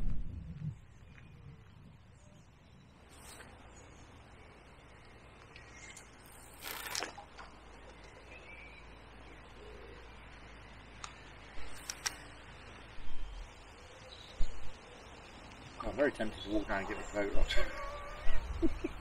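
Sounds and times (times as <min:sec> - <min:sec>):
rustle: 0:00.0 - 0:19.0.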